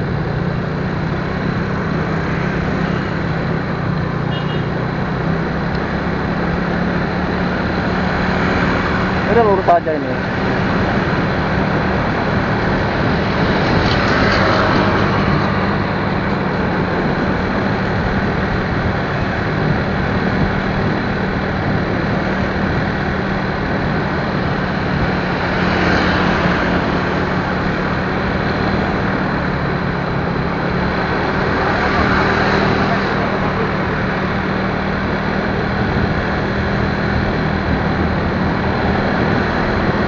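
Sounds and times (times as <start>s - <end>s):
motorcycle engine running: 0.0s - 40.0s
rushing wind and road noise: 0.0s - 40.0s.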